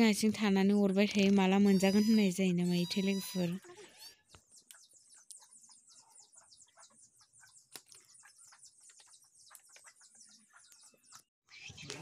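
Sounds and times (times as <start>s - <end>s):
rapid high-pitched chirping: 1.4s - 11.9s.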